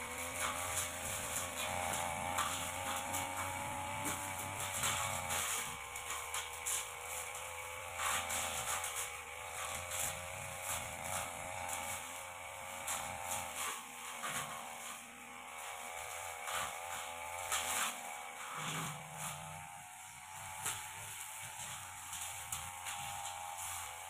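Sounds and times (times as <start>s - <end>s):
blade swishing through grass: 0.0s - 24.0s
brush cutter engine running: 0.0s - 24.0s.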